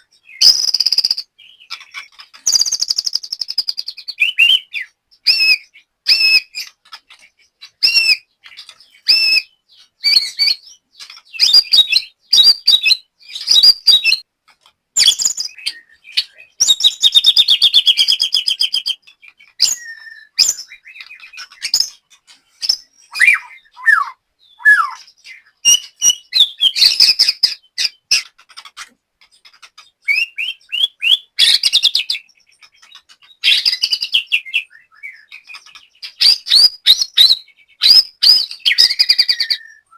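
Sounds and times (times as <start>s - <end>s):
songbird singing whistled song: 0.0s - 14.3s, 15.0s - 28.3s, 29.5s - 39.9s.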